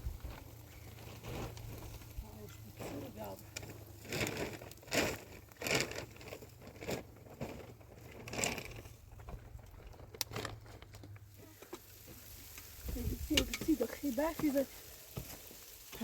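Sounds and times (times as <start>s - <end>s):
light rustles clicks and knocks: 0.0s - 16.0s.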